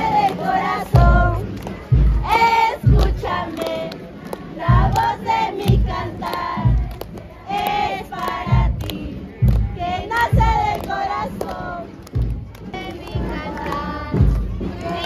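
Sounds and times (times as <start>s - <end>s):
low drum beat: 0.0s - 15.0s
many voices singing: 0.0s - 15.0s.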